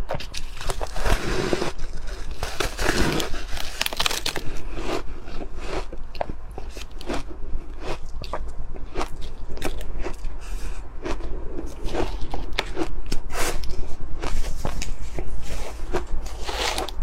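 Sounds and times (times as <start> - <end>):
ice crunching between teeth: 0.1 - 17.0.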